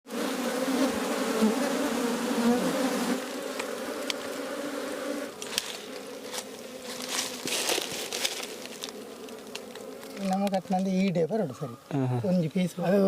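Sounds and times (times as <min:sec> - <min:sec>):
honeybees buzzing: 0:00.1 - 0:13.0.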